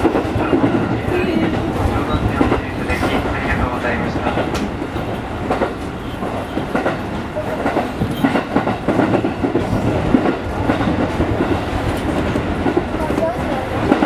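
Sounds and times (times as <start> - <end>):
train rolling rumble: 0.0 - 14.0.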